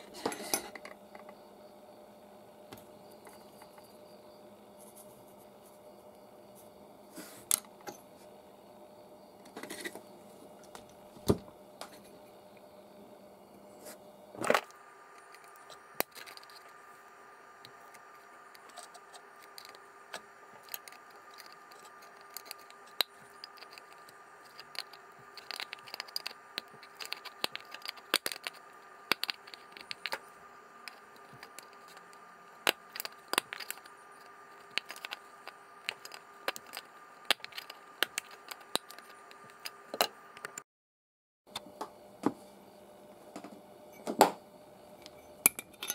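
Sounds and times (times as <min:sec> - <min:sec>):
faint steady hum: 0:00.0 - 0:40.6, 0:41.5 - 0:45.9.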